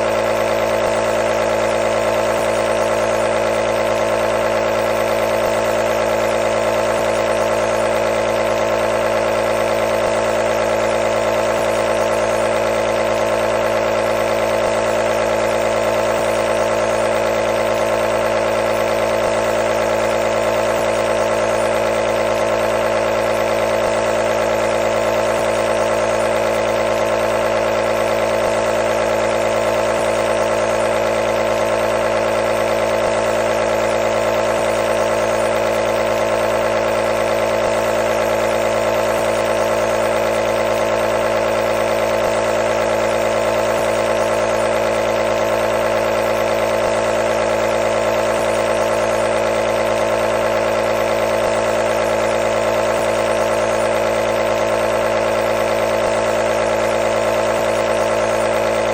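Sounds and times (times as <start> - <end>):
nebulizer humming and hissing: 0.0 - 58.9.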